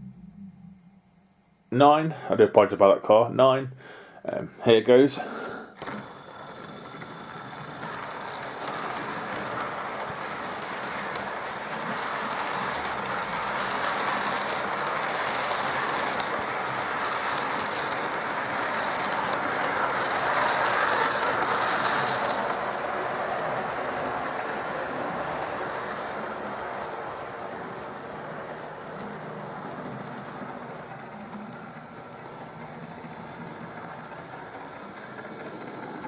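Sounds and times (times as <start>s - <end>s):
model train whirring on track: 5.2s - 36.0s.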